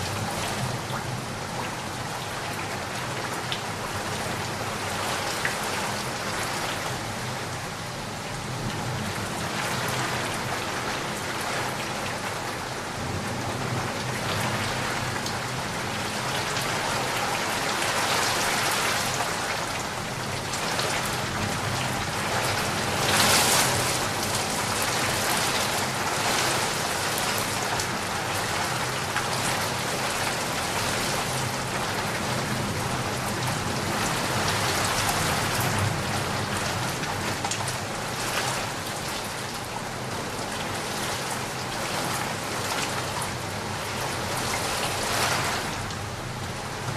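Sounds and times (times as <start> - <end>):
steady rain on a surface: 0.0 - 46.9.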